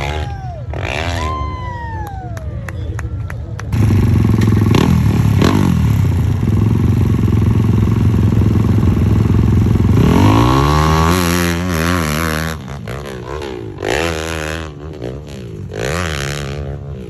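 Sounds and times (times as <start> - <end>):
motorcycle engine revving: 0.0 - 1.5, 3.7 - 17.0.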